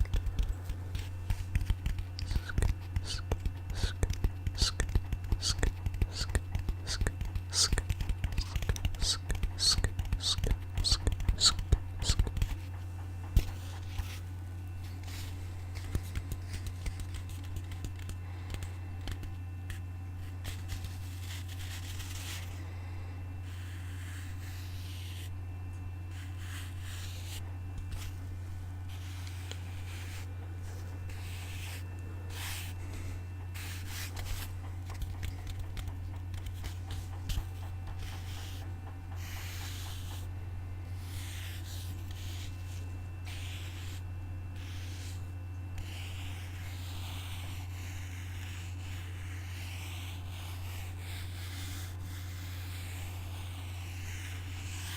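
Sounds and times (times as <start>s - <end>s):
scratching and rubbing on a surface: 0.0s - 12.7s, 13.3s - 22.6s, 23.4s - 25.4s, 26.0s - 40.3s, 40.9s - 54.9s
steady low hum: 0.0s - 54.9s.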